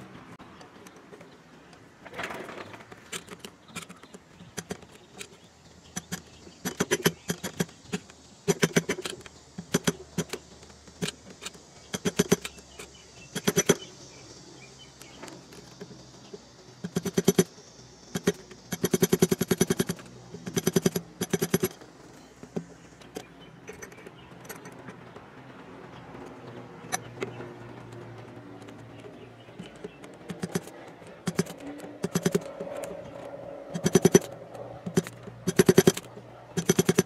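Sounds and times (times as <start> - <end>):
metal pick scraping and clicking: 0.6 - 13.9, 15.0 - 25.2, 26.2 - 37.0.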